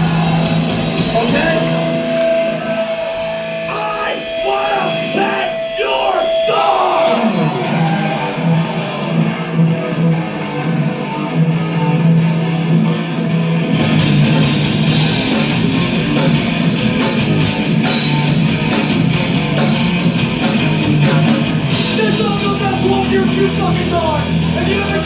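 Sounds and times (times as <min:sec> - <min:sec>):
distorted electric guitar riff: 0:00.0 - 0:25.0
metal band with drums and cymbals: 0:00.0 - 0:25.0.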